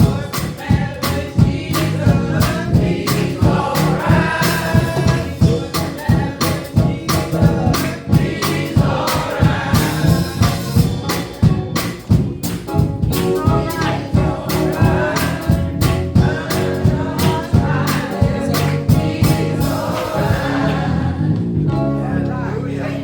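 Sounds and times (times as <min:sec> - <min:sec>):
drum hits: 0:00.0 - 0:20.9
band accompaniment: 0:00.0 - 0:22.7
gospel choir singing: 0:00.0 - 0:23.0.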